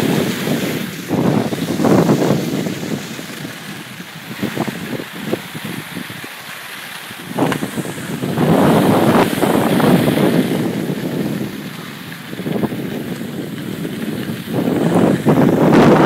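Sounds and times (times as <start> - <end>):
sliding across snow: 0.0 - 16.0
wind buffeting microphone: 0.0 - 16.0.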